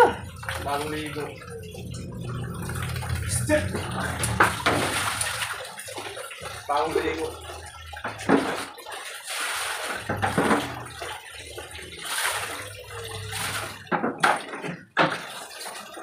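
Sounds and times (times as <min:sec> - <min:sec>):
water splashing on tiled floor: 0:00.0 - 0:16.0.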